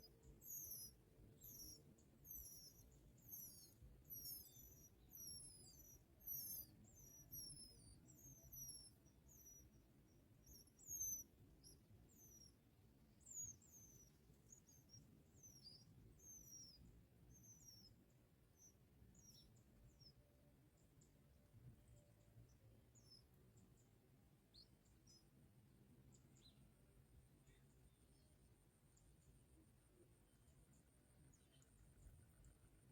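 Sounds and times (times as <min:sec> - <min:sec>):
thin bird chirps: 0:00.0 - 0:21.2, 0:21.9 - 0:25.3, 0:27.4 - 0:29.3, 0:29.9 - 0:32.9.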